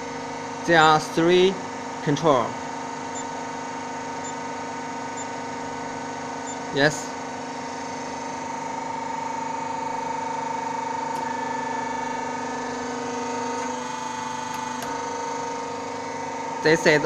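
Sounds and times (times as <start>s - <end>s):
hydraulic pump motor humming: 2.6s - 16.6s.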